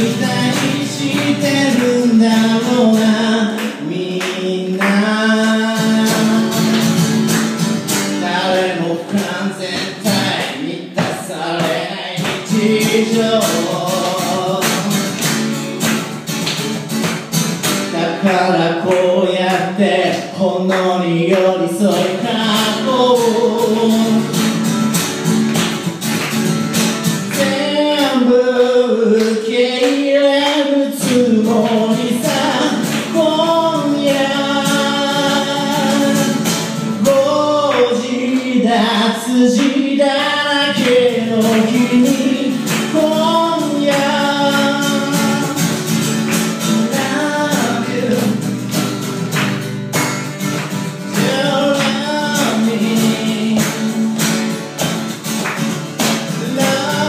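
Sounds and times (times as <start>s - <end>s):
man singing: 0.0s - 15.8s, 17.7s - 25.0s, 27.0s - 48.8s, 50.8s - 54.9s, 55.9s - 57.0s
acoustic guitar strumming: 0.0s - 57.0s.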